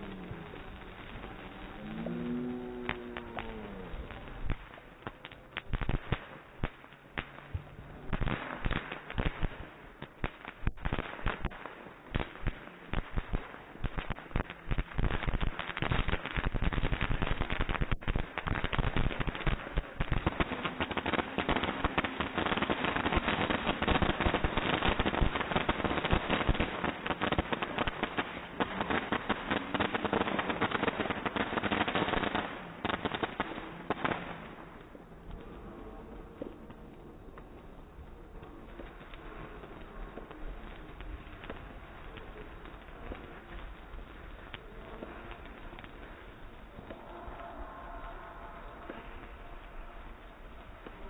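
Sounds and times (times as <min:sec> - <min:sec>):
fireworks crackling and popping: 0:00.0 - 0:51.0.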